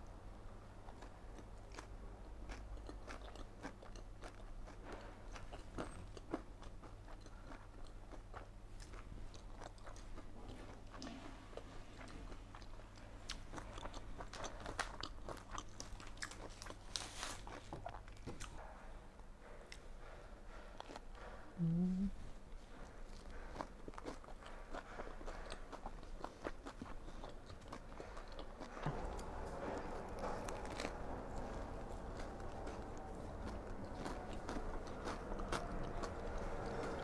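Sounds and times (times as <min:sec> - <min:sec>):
chewing crunchy food: 0:00.4 - 0:18.7, 0:19.7 - 0:21.6, 0:22.4 - 0:37.0.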